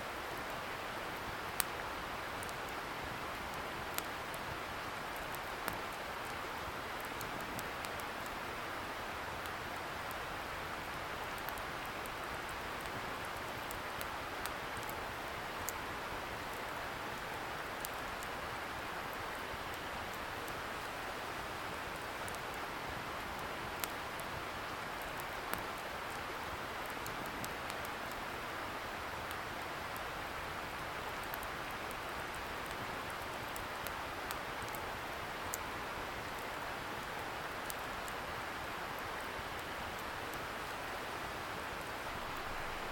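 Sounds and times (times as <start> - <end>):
wood fire crackling: 0.1 - 42.9.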